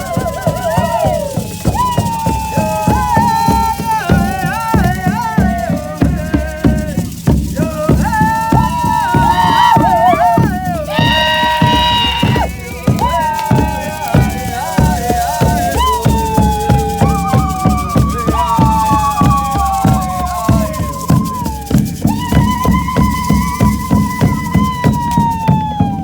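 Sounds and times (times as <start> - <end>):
drum beat: 0.0 - 26.0
shaker rattle: 0.0 - 26.0.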